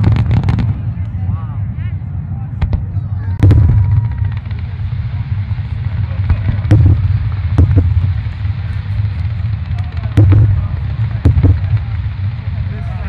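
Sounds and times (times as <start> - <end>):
fireworks bursting with sharp bangs: 0.0 - 1.0, 2.6 - 13.0
continuous low rumble: 0.0 - 13.0.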